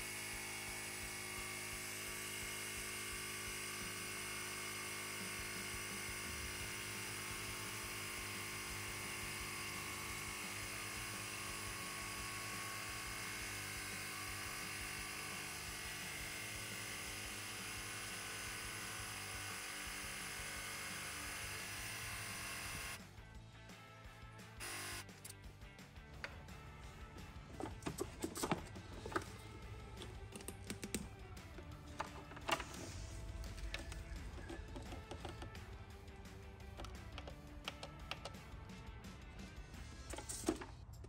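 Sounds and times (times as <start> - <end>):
small electric compressor running: 0.0 - 23.0, 24.6 - 25.2, 27.6 - 38.8.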